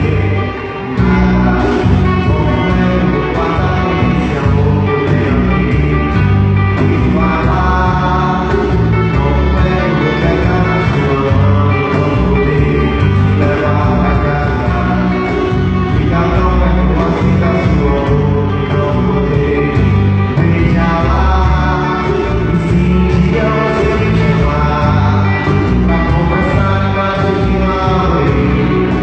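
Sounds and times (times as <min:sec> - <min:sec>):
live band playing: 0:00.0 - 0:29.0
person singing: 0:00.0 - 0:29.0.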